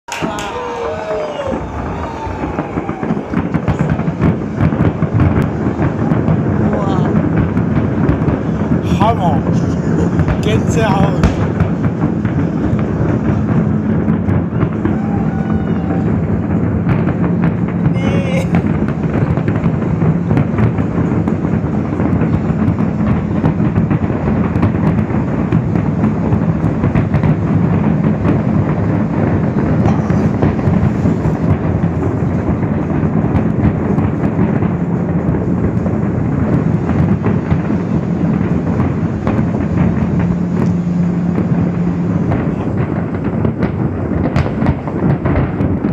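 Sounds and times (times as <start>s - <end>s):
fireworks bangs and crackles: 0.0s - 45.9s
steady low drone: 0.5s - 45.6s.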